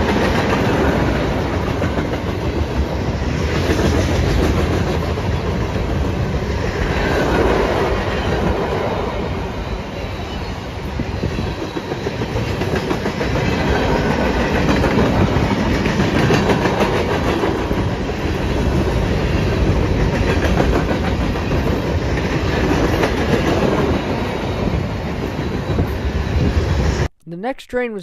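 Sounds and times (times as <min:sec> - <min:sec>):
train wheels rumbling on rail: 0:00.0 - 0:27.1.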